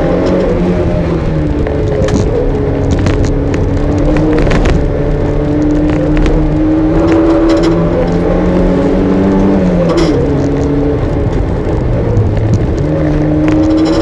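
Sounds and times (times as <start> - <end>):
car engine pulling hard from inside: 0.0 - 14.0.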